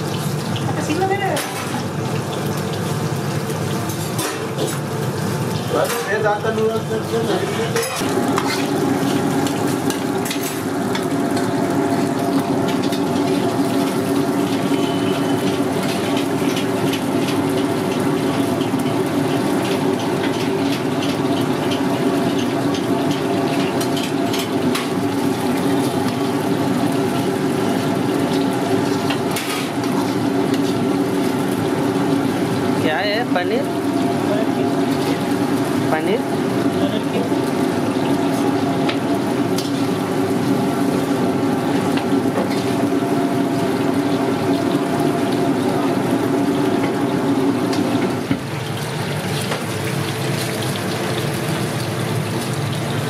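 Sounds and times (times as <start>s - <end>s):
oil sizzling: 0.0s - 53.0s.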